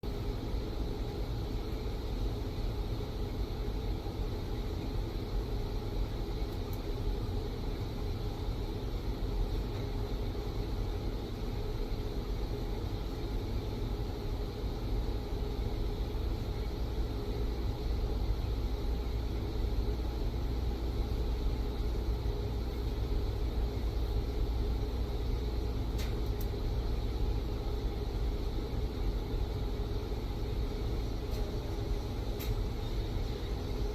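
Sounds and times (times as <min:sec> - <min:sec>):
welding rig humming and hissing: 0:00.0 - 0:33.9.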